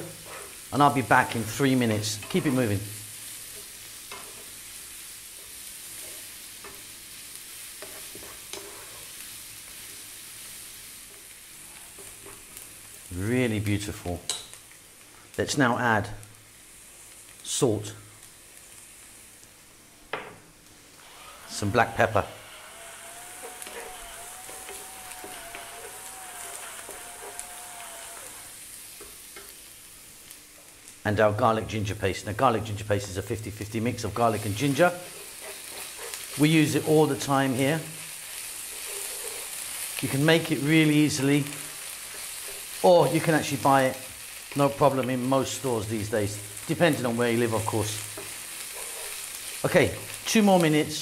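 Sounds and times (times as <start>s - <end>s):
vegetables sizzling in oil: 0.0s - 51.0s.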